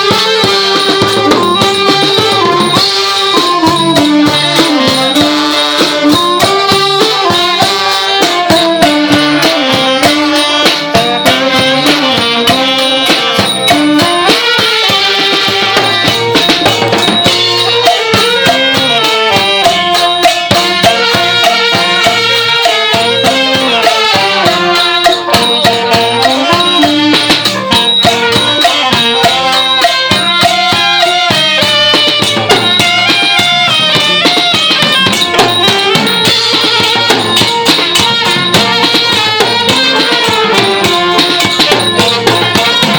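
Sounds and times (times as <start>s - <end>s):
drum and cymbal beats: 0.0s - 42.9s.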